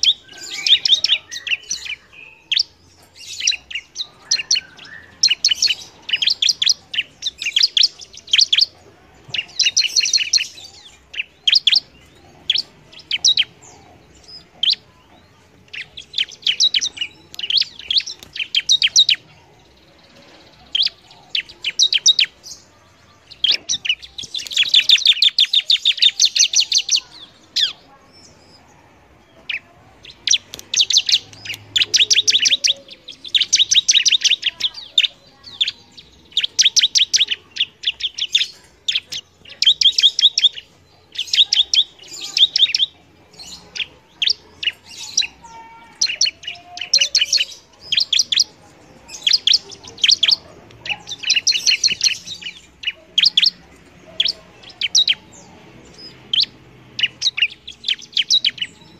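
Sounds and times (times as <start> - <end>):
bird singing high chirps: 0.0 - 58.9.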